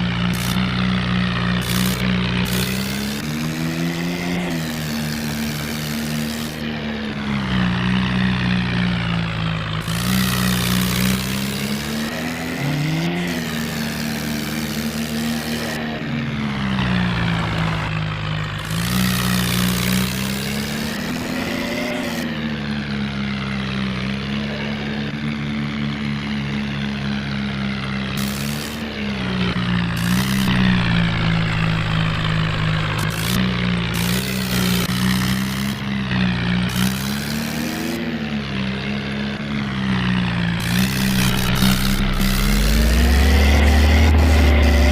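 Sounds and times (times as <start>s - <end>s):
tractor engine droning: 0.0s - 44.9s.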